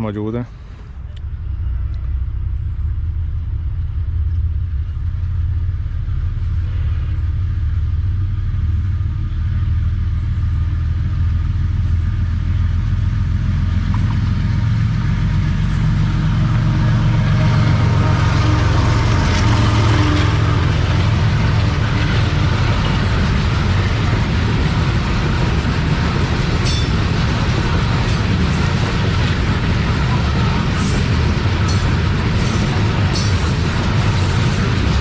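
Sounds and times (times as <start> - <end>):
diesel train engine rumble: 0.0 - 35.0.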